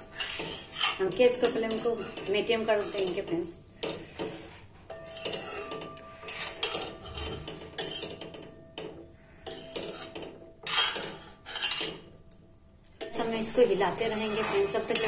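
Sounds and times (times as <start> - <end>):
metal spoon scraping a pan: 0.0 - 8.4, 9.4 - 12.1, 13.0 - 15.0.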